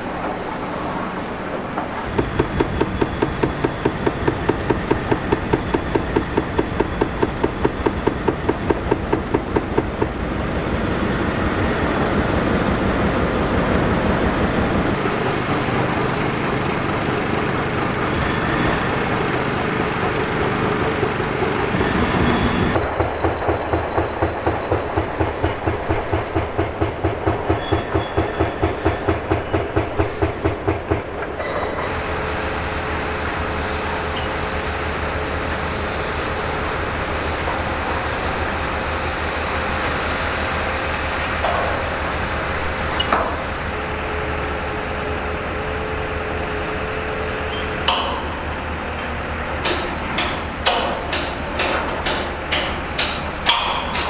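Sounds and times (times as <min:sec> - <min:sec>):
heavy diesel machinery running: 0:01.3 - 0:54.0.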